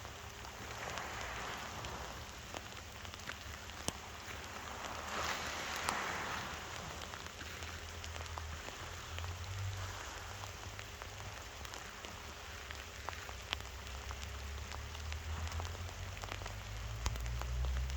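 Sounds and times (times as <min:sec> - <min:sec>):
small waves lapping and splashing: 0:00.0 - 0:17.9.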